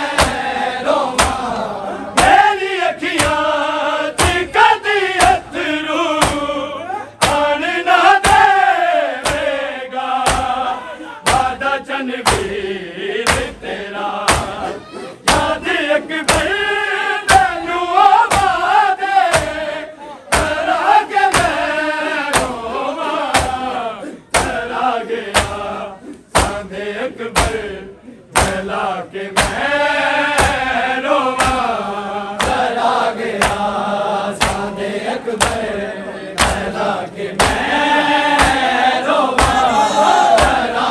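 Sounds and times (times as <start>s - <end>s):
men chanting in unison: 0.0s - 40.9s
rhythmic chest-beating: 0.0s - 40.9s.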